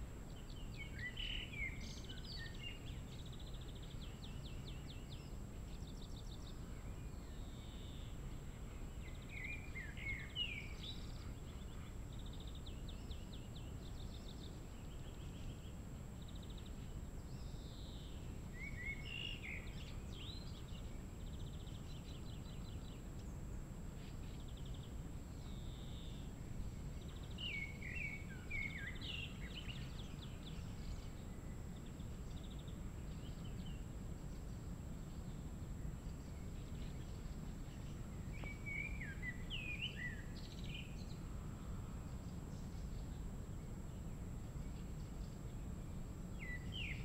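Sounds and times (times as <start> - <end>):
songbirds singing: 0.0 - 47.0.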